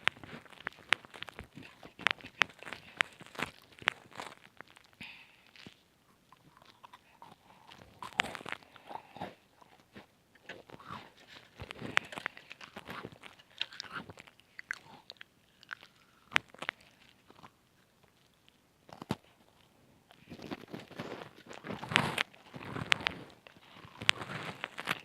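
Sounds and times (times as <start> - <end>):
crunching and chewing cookies: 0.0 - 25.0.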